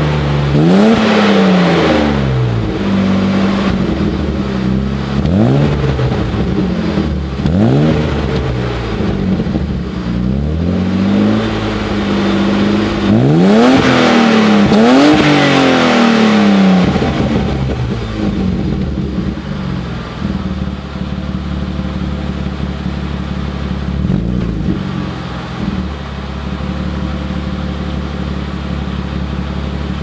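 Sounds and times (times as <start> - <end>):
car engine idling: 0.0 - 30.0
engine throttle blip: 0.0 - 30.0.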